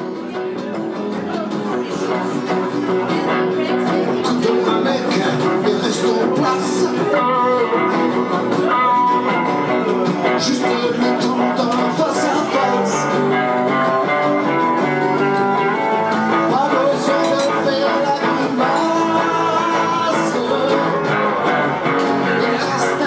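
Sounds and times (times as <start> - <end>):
acoustic guitar strumming chords: 0.0 - 23.0
electric guitar picking notes: 0.0 - 23.0.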